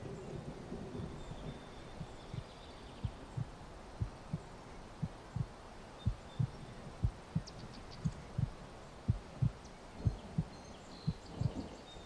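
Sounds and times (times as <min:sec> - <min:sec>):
slow heartbeat thumps: 0:00.3 - 0:11.7.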